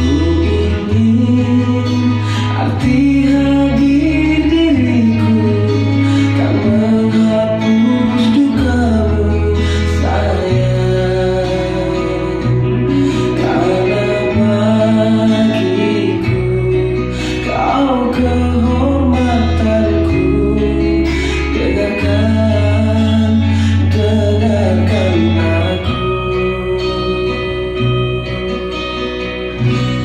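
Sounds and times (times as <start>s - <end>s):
pop song with male vocals: 0.0s - 30.0s.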